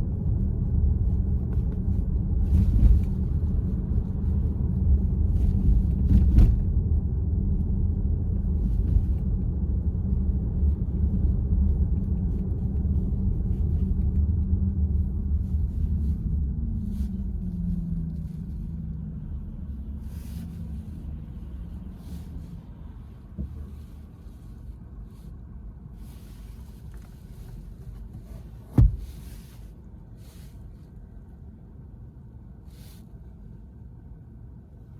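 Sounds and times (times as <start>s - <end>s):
car cabin road rumble: 0.0s - 34.9s.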